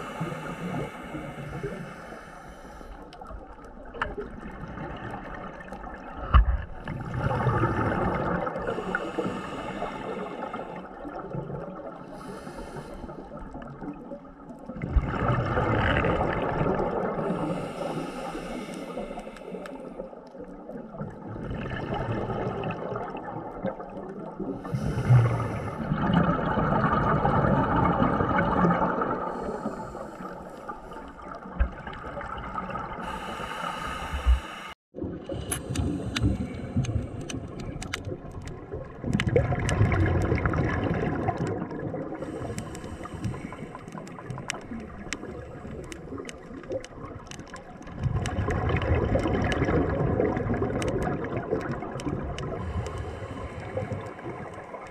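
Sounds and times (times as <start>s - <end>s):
exhaled bubbles underwater: 0.0s - 54.9s.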